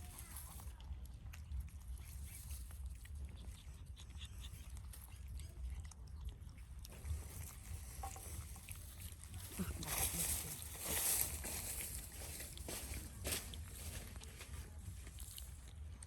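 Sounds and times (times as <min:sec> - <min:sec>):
dog chewing and crunching: 0:00.0 - 0:16.0.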